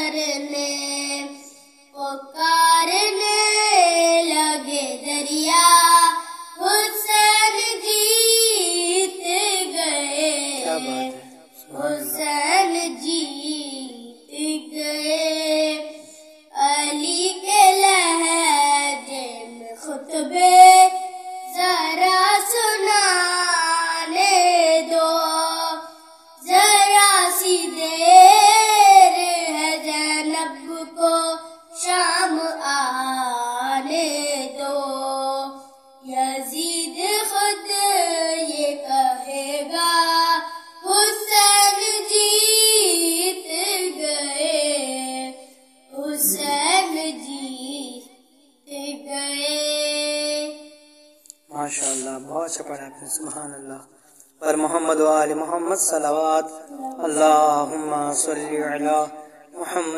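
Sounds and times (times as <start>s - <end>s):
boy singing unaccompanied: 0.0s - 48.1s, 48.7s - 50.7s, 51.3s - 53.4s, 54.4s - 59.9s.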